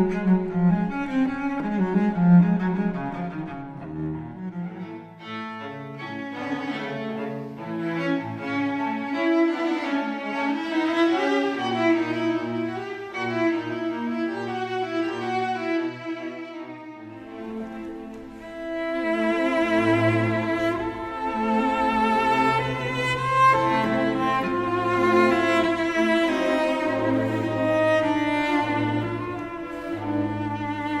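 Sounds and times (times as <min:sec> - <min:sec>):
bowed cello music: 0:00.0 - 0:31.0.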